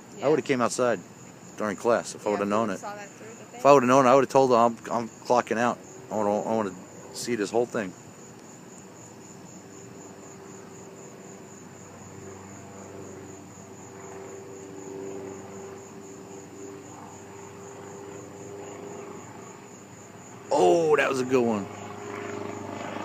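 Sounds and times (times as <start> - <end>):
distant propeller airplane droning: 0.0 - 23.0
night insects trilling: 0.0 - 23.0.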